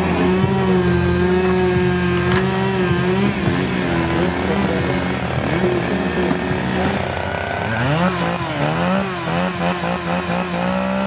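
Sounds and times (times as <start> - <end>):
chainsaw engine revving: 0.0 - 11.0
low engine hum: 0.0 - 11.0.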